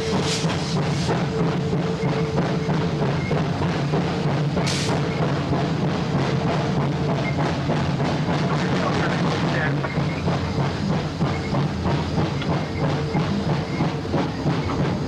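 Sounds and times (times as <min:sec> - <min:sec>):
steam hiss: 0:00.0 - 0:15.0
steam locomotive clatter: 0:00.0 - 0:15.0.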